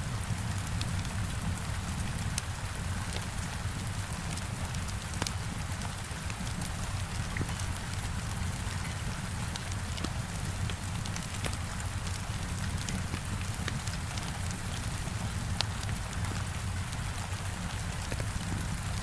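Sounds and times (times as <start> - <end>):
wood fire crackling: 0.2 - 19.0.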